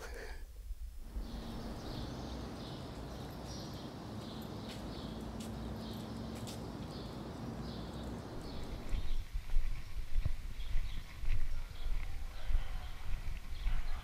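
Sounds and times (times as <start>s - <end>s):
steady low street hum: 0.6s - 14.0s
small birds chirping: 1.0s - 12.6s.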